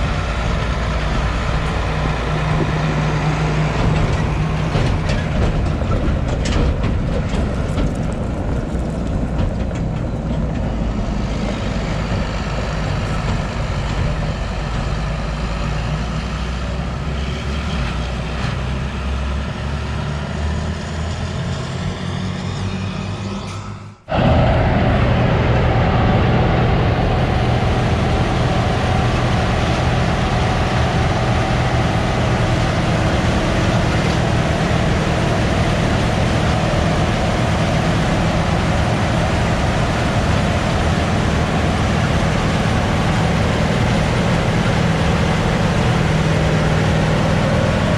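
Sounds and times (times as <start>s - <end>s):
diesel engines running under load: 0.0s - 47.9s.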